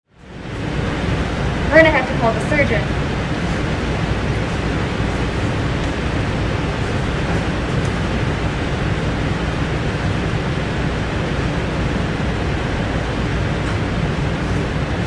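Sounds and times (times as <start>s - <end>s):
ventilation air rushing: 0.1s - 15.0s.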